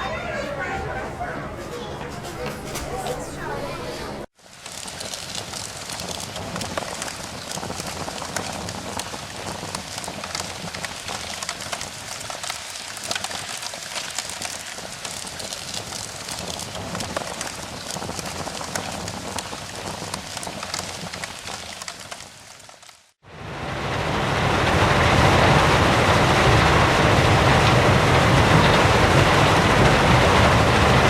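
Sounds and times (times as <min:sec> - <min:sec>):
sharp crackles and clicks: 0:04.4 - 0:23.2, 0:23.8 - 0:31.0.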